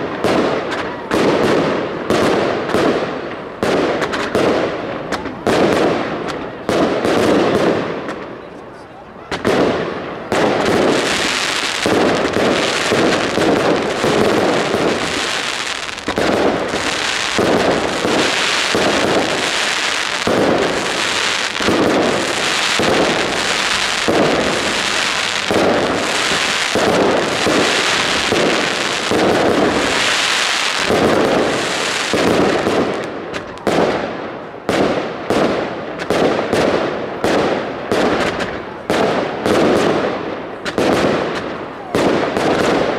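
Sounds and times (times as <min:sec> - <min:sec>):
fireworks bangs and crackle: 0:00.0 - 0:42.9.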